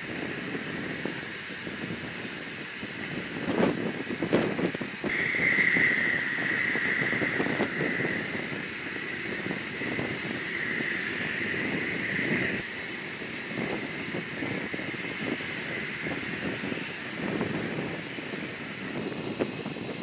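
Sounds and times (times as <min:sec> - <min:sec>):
jet engine turbine whine: 0:00.0 - 0:20.0
jet exhaust rumble: 0:00.0 - 0:20.0.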